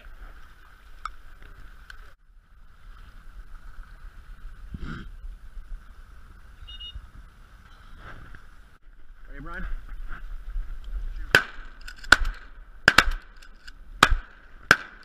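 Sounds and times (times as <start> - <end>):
wind rumbling on microphone: 0.0 - 14.7.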